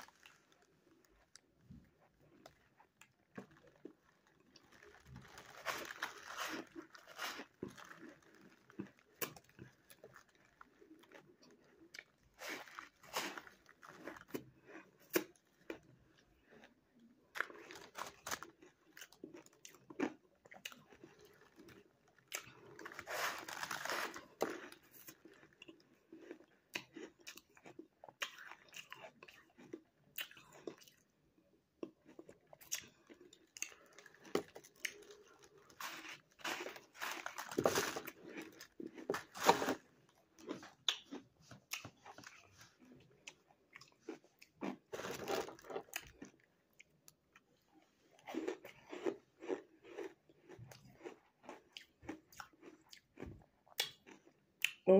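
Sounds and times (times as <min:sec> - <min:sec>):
crunching and chewing ice: 0:00.0 - 0:54.8.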